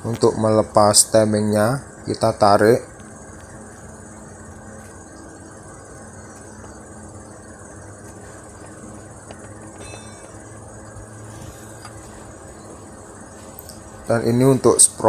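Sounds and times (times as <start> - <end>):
even hiss: 0.0 - 15.0
steady low hum: 0.0 - 15.0.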